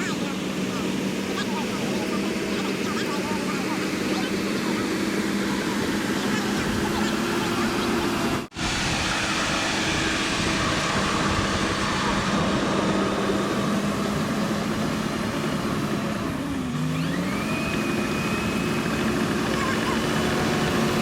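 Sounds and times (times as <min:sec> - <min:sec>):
bulldozer diesel engine: 0:00.0 - 0:21.0.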